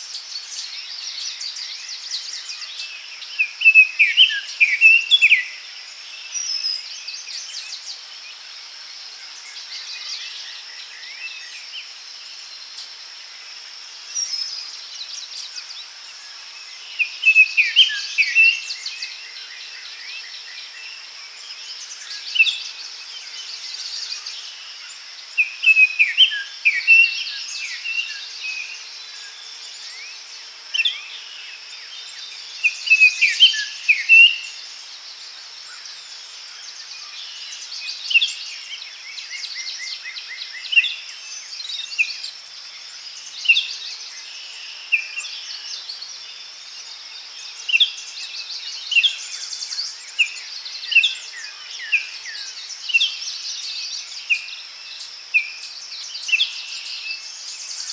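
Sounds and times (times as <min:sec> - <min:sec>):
songbirds chirping and whistling: 0:00.0 - 0:13.2, 0:14.0 - 0:57.9
high insect hum: 0:00.0 - 0:57.9.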